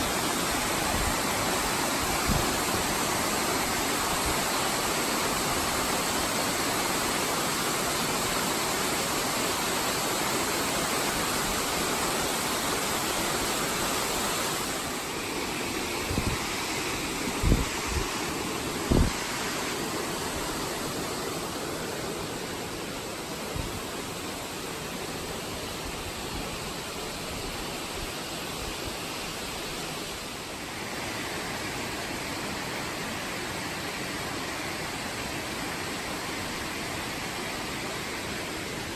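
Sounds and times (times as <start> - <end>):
falling water rushing: 0.0 - 38.9.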